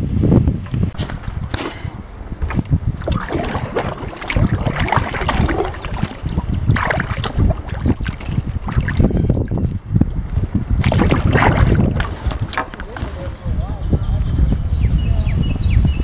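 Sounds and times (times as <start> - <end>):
wind buffeting microphone: 0.0 - 16.0
water splashing against hull: 0.6 - 13.5.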